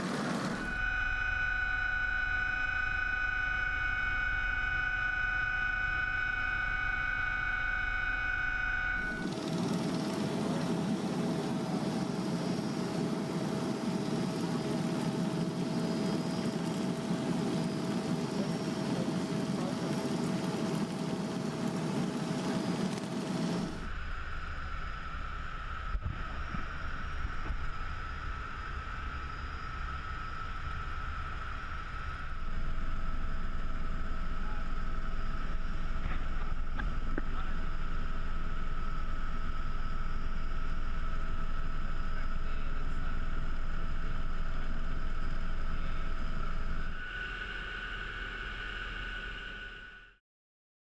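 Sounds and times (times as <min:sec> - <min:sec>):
aircraft engine drone: 0:00.0 - 0:50.2.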